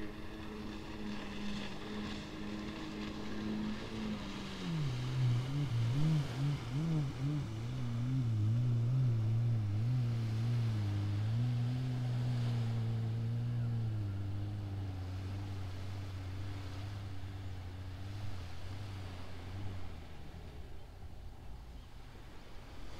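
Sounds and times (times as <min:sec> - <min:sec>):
jet ski engine droning: 0:00.0 - 0:22.9.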